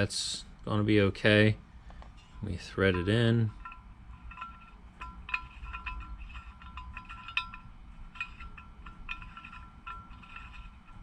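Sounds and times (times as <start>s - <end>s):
light metallic clinks: 2.1s - 11.0s.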